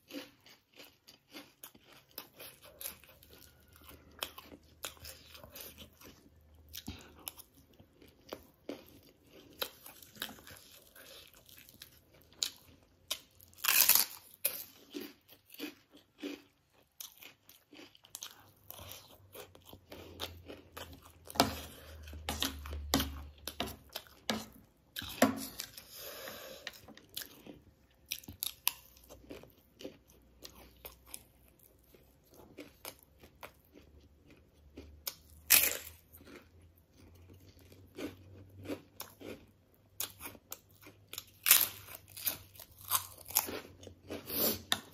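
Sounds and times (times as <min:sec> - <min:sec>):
chewing crunchy snack: 0:00.0 - 0:44.9.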